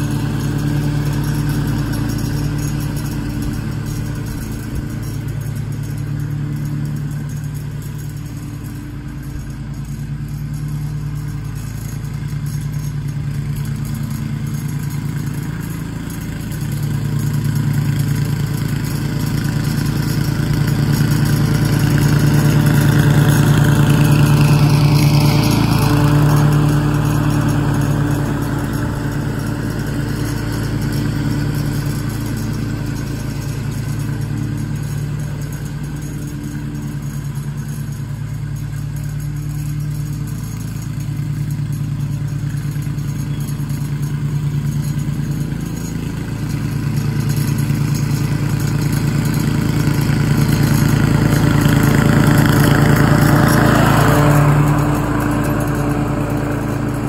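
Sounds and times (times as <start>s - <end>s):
lawn mower engine cutting grass: 0.0s - 57.0s.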